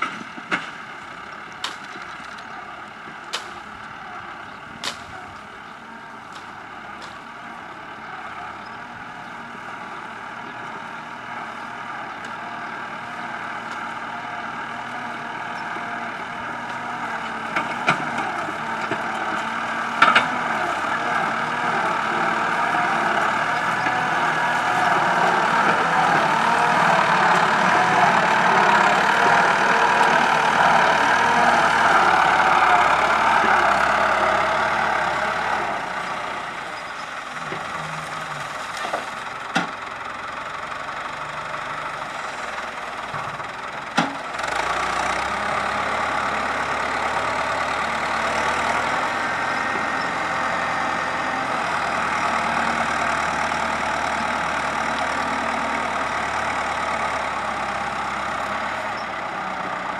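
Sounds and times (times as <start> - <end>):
loader engine running: 0.0 - 59.9.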